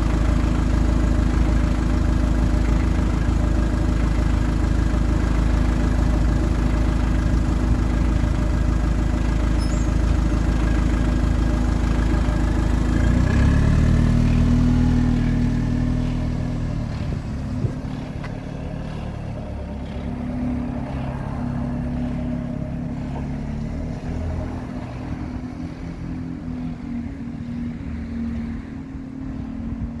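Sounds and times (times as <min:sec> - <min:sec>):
bus diesel engine: 0:00.0 - 0:30.0.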